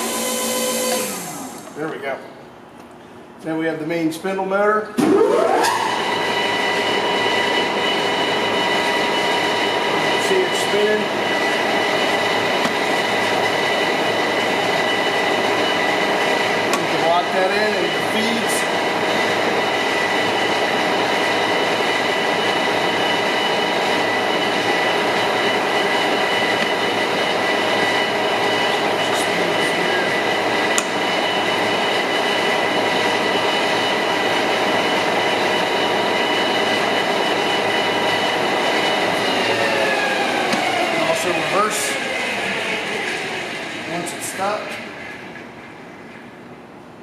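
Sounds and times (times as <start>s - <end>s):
drill motor geared whine: 0.0s - 1.8s, 5.3s - 44.9s.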